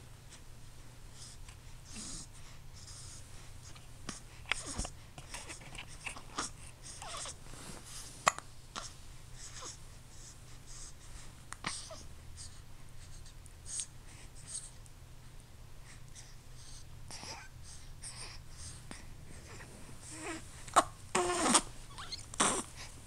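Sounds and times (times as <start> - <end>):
soft breathing: 0.3 - 23.0.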